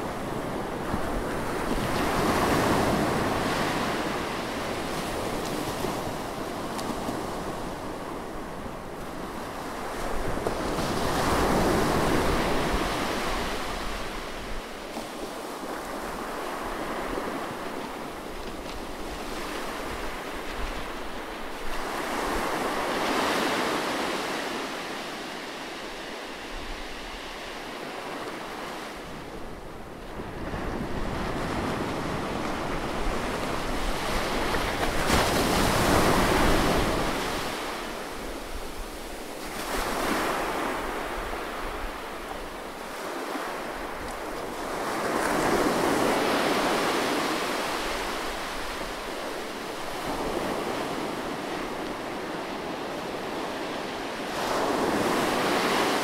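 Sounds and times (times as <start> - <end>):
sea surf breaking on beach: 0.0 - 56.0.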